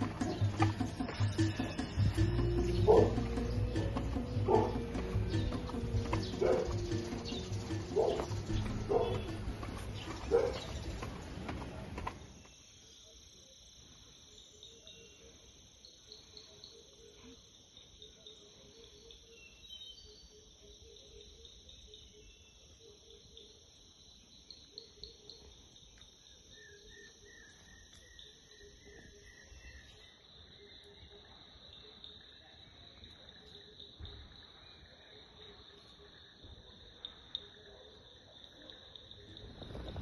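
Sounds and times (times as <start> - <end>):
insect chorus buzzing and trilling: 0.0 - 40.0.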